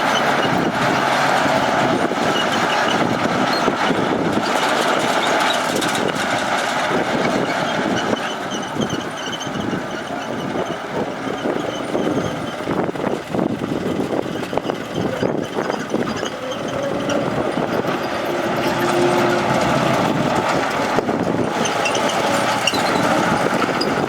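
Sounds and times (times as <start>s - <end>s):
heavy diesel machinery running: 0.0s - 24.0s.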